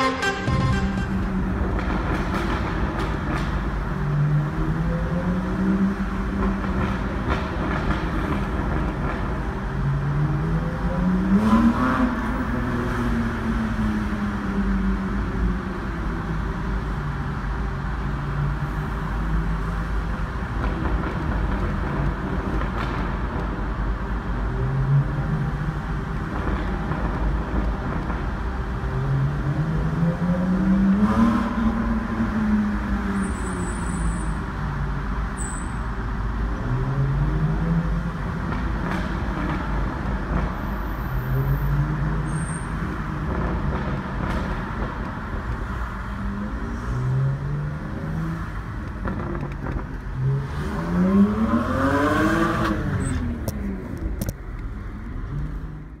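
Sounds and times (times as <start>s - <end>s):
car engine revving in a tunnel: 1.3s - 22.5s, 23.2s - 54.3s.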